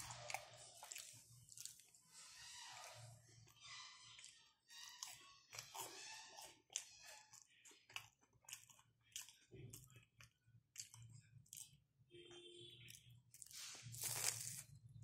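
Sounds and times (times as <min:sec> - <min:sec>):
person chewing crunchy food: 0:00.0 - 0:12.0, 0:12.8 - 0:15.0.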